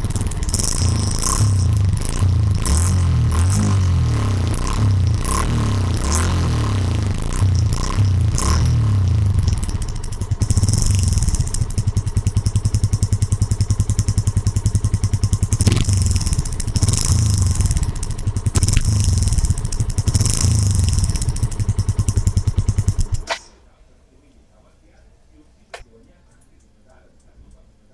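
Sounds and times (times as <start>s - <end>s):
motorcycle engine idling and revving: 0.0s - 23.4s.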